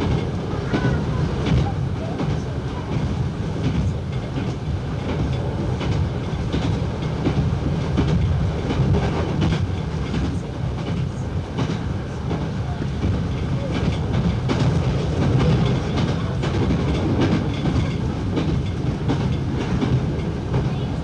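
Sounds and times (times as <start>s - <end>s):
train engine and wheels rumbling: 0.0s - 21.0s
wheels clicking over rail joints: 0.0s - 21.0s.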